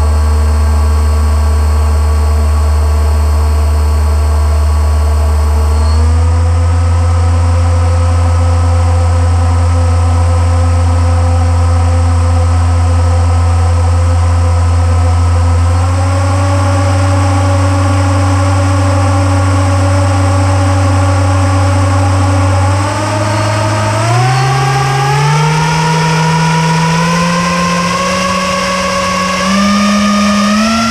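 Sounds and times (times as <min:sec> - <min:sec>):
boat motor running: 0:00.0 - 0:30.9.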